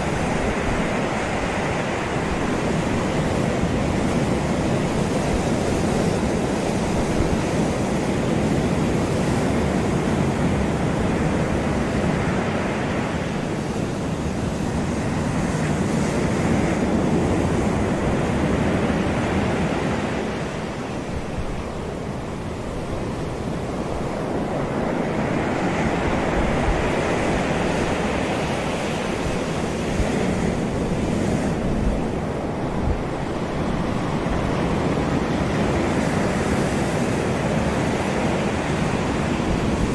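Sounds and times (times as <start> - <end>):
ocean surf washing onto beach: 0.0 - 39.9
wind buffeting microphone: 0.0 - 39.9.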